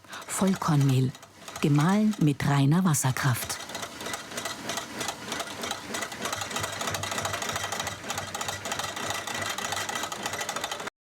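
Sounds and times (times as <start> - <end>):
mill machinery clattering: 0.0 - 10.9.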